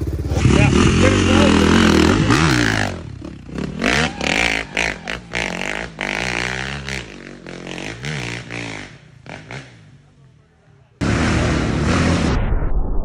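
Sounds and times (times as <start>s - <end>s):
dirt bike engine revving: 0.0s - 10.0s, 11.0s - 12.3s.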